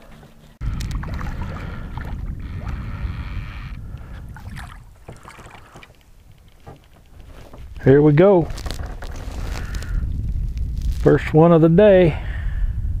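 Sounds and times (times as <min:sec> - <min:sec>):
wind rumble on microphone: 0:00.6 - 0:13.0.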